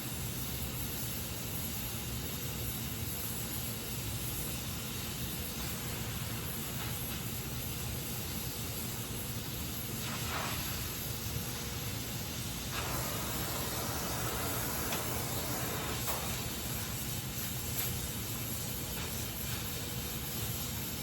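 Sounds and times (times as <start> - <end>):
welding torch flame hissing: 0.0 - 21.0.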